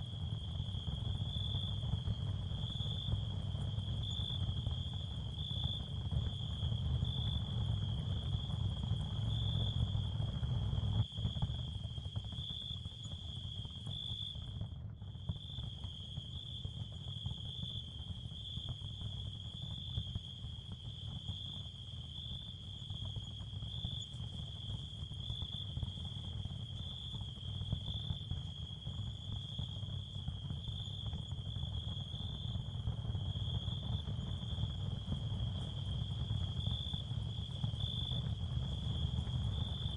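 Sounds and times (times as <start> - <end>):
cricket chorus: 0.0 - 39.9.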